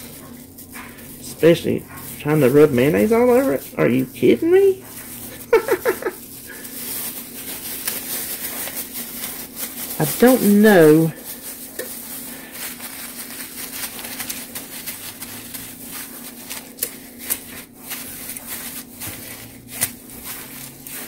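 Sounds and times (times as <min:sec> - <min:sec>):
plastic glove and paper crinkling: 0:00.0 - 0:21.0
steady low hum: 0:00.0 - 0:21.0.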